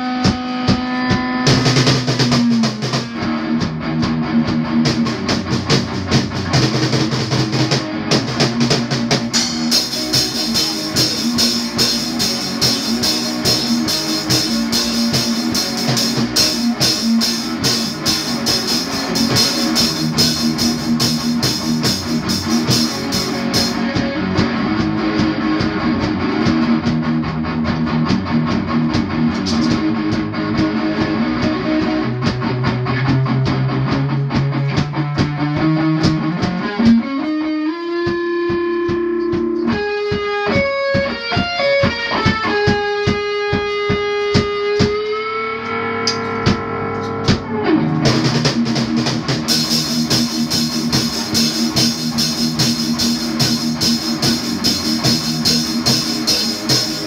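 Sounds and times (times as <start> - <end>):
drum kit playing: 0.0 - 57.0
electric guitar through amplifier: 0.0 - 57.0.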